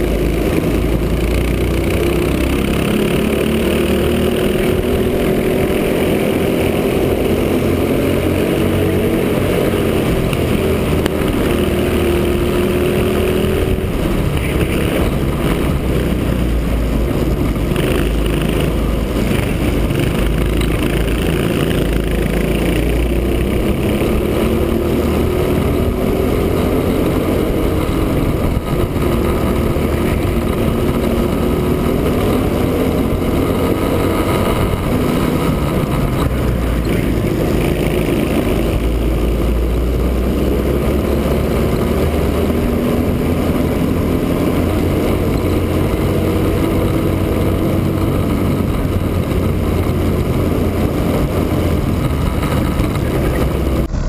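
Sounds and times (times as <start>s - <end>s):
kart engine running hard: 0.0s - 54.0s.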